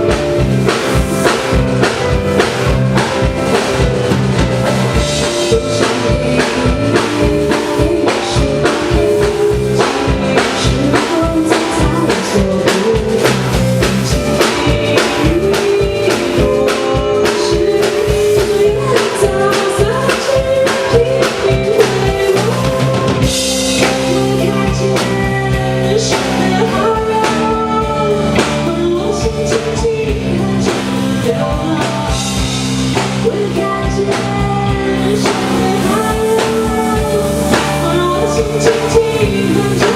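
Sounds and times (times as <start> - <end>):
drum kit hitting: 0.0 - 39.9
rock band playing: 0.0 - 39.9.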